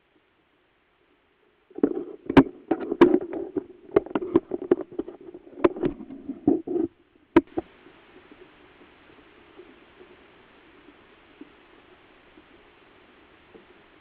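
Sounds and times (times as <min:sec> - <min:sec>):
faint steady hiss: 0:00.0 - 0:14.0
soft rustles: 0:01.7 - 0:14.0.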